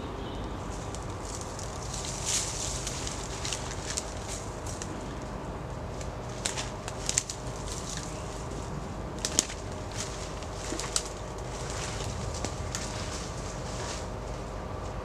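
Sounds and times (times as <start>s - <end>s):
low background noise: 0.0s - 15.0s
footsteps through leaf litter: 0.6s - 14.9s
twigs snapping: 0.7s - 14.5s.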